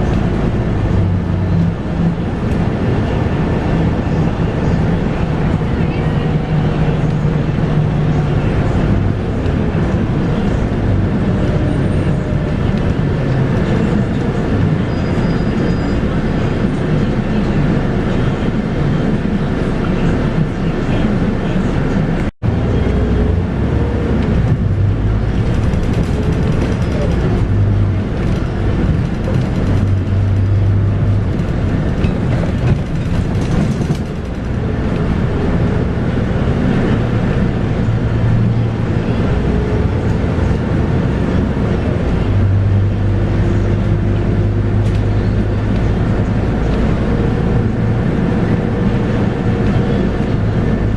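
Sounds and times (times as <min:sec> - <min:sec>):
bus diesel engine running: 0:00.0 - 0:50.9.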